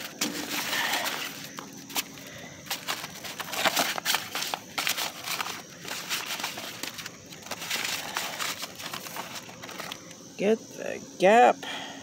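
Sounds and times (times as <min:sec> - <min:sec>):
paper scraping on asphalt: 0:00.0 - 0:10.1.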